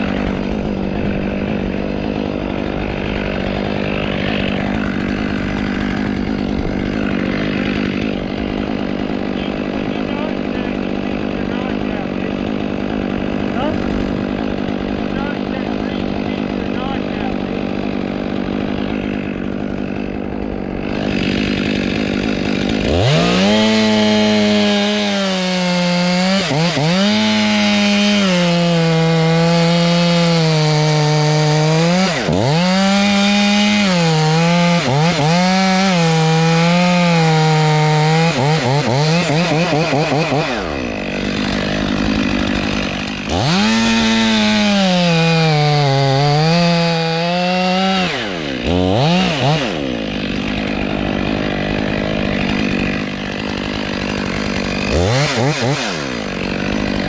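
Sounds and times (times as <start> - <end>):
chainsaw revving and cutting wood: 0.0 - 57.0.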